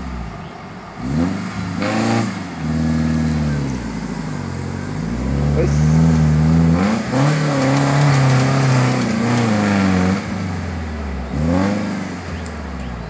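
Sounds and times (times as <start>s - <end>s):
engine revving hard: 1.0s - 12.9s.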